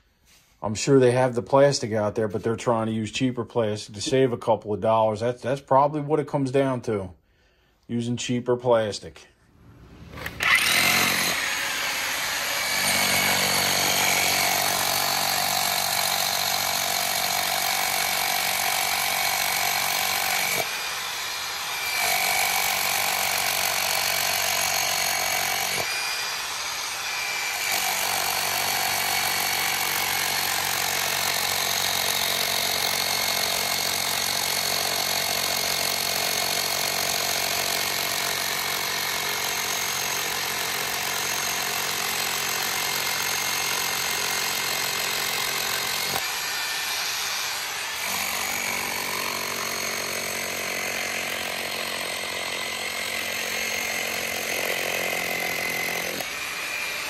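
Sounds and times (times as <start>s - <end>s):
rotary hammer running: 10.0s - 57.0s.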